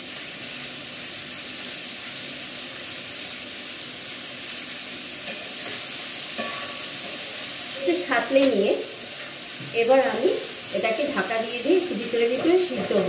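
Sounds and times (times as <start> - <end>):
vegetables frying in oil: 0.0 - 13.0.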